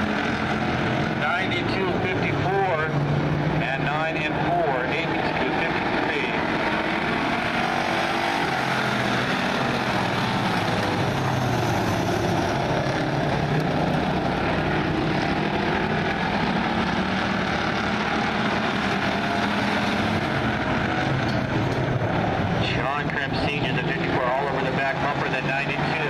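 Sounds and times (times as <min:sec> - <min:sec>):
race car engines droning: 0:00.0 - 0:26.0.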